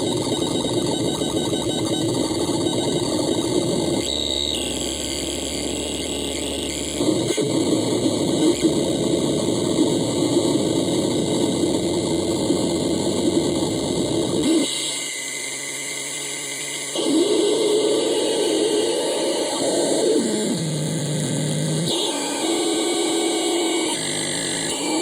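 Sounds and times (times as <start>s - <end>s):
harsh electronic noise: 0.0s - 25.0s.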